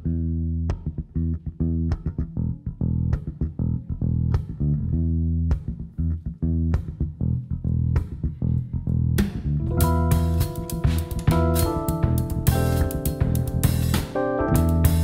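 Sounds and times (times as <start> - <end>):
electric bass guitar plucked: 0.0 - 15.0.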